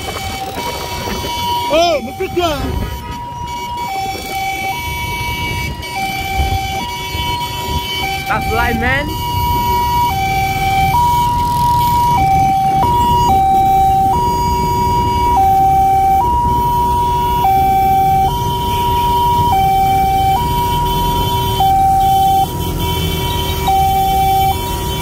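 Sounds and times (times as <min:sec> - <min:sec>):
motorcycle engine: 0:00.0 - 0:25.0
traffic rumble: 0:00.0 - 0:25.0
two-tone siren: 0:00.0 - 0:25.0.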